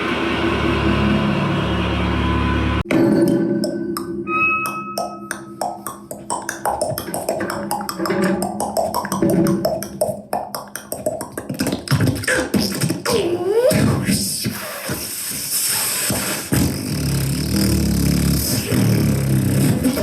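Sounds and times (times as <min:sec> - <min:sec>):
experimental noise music: 0:00.0 - 0:20.0.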